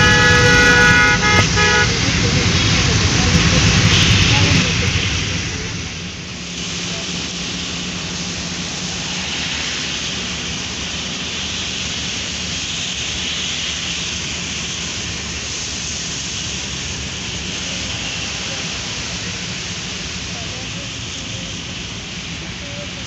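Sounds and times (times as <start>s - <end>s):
heavy rain on car: 0.0s - 23.0s
tyres on wet road: 0.0s - 23.0s.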